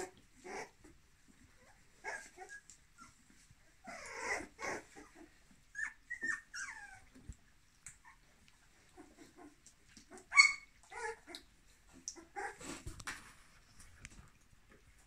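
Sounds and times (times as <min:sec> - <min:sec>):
puppies whimpering and yipping: 0:00.0 - 0:12.8.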